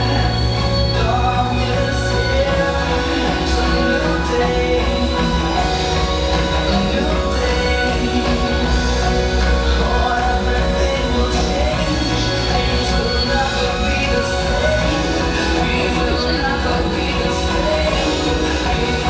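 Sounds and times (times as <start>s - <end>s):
song with band and singing: 0.0s - 19.0s.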